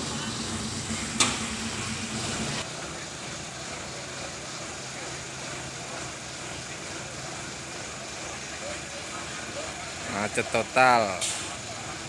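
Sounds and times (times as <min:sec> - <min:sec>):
traffic noise: 0:00.0 - 0:12.0
vehicle engines idling: 0:00.0 - 0:12.0.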